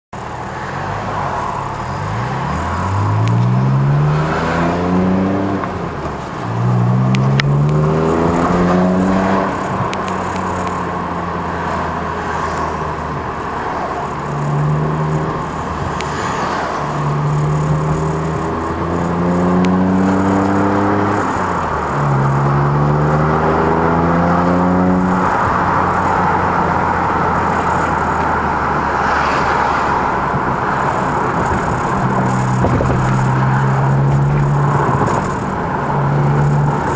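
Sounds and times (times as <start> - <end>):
road noise: 0.1 - 36.9
car engine accelerating: 0.5 - 36.9.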